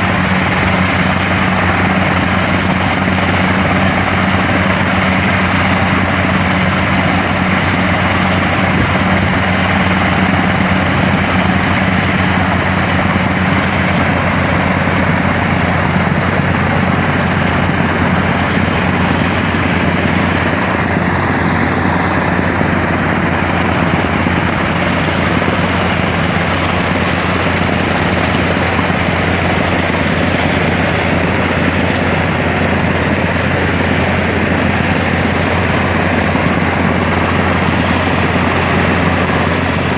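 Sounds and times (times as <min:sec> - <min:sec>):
drilling machine engine drone: 0:00.0 - 0:39.9.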